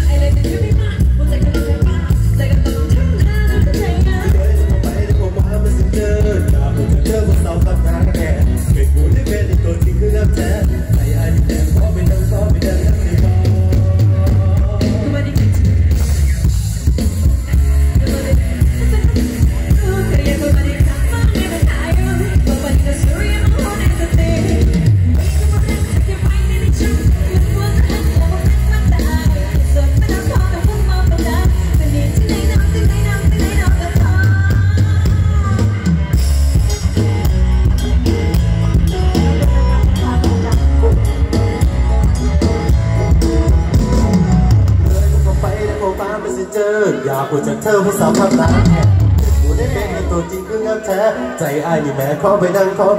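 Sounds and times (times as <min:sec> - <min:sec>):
electric bass: 0:00.0 - 0:46.8, 0:47.4 - 0:50.6
drum kit: 0:00.0 - 0:52.2
band music over loudspeakers: 0:00.0 - 0:52.9
electric guitar: 0:00.0 - 0:52.9
person singing: 0:00.0 - 0:52.9.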